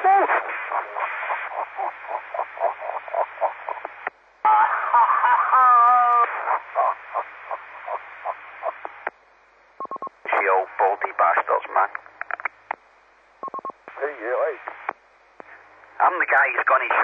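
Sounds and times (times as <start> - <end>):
muffled radio bursts: 0.0 - 9.2, 9.8 - 12.8, 13.4 - 17.0
radio hiss: 0.0 - 17.0.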